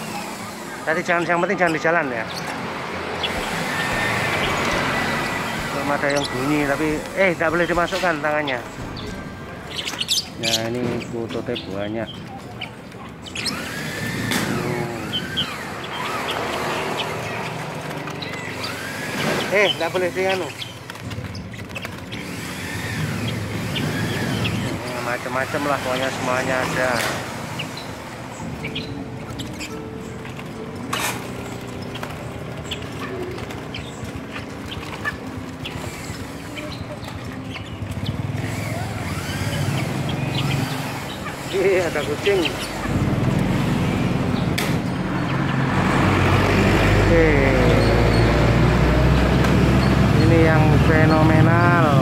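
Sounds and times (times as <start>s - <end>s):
birds chirping and whistling: 0.0s - 52.0s
crowd noise: 0.0s - 52.0s
vehicle engine running: 0.0s - 52.0s.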